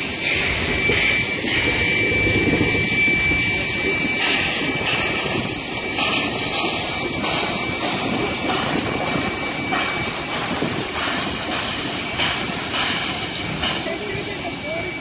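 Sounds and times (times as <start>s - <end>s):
train carriages rumbling on track: 0.0s - 15.0s.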